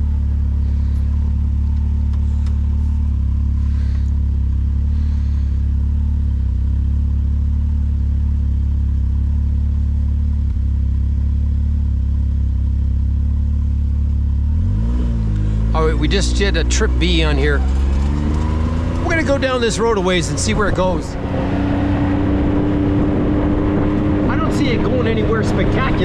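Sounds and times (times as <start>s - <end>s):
vehicle engine humming while driving: 0.0s - 26.0s.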